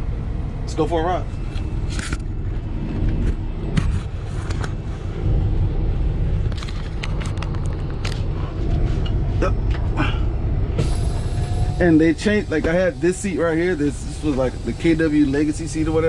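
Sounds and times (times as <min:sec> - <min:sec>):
truck diesel engine rumbling: 0:00.0 - 0:16.0.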